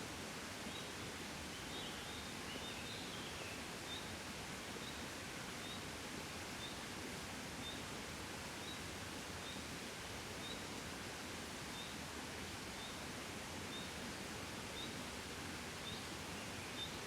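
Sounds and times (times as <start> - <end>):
soft steady wind: 0.0 - 17.0.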